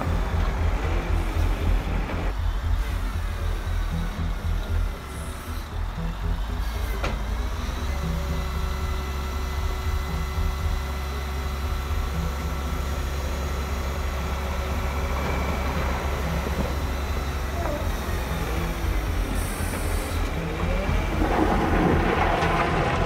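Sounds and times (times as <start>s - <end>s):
model vehicle engine rumble: 0.0s - 23.0s.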